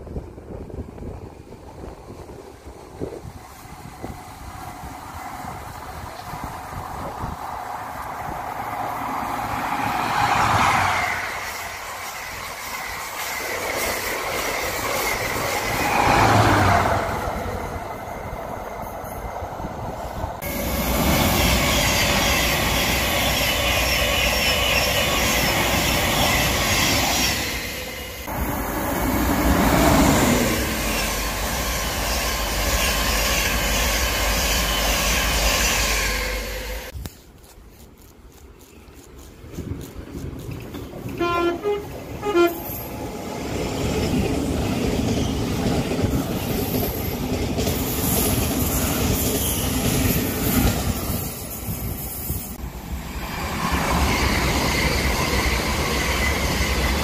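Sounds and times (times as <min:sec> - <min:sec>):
diesel train passing at speed: 0:00.0 - 0:37.0, 0:38.5 - 0:57.0
electric train running past: 0:00.0 - 0:37.0, 0:39.4 - 0:57.0.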